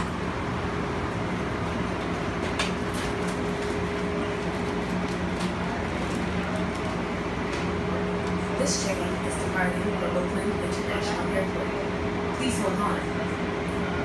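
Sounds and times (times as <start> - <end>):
train car interior hum: 0.0 - 14.0.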